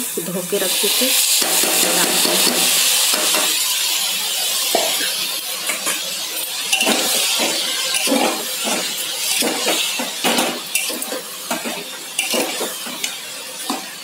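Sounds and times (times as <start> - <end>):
food sizzling in hot ghee: 0.0 - 14.0.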